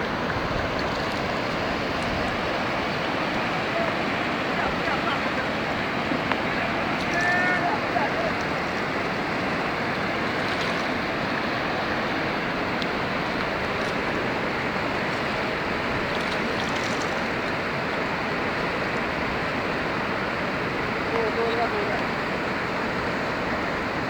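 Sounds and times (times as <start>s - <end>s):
storm water rushing: 0.0s - 24.0s.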